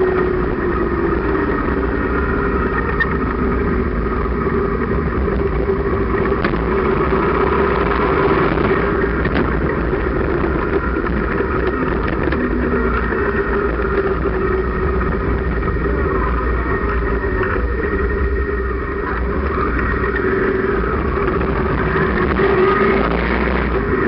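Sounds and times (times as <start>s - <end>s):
motorcycle engine drone: 0.0s - 24.0s
wind rushing on microphone: 0.0s - 24.0s.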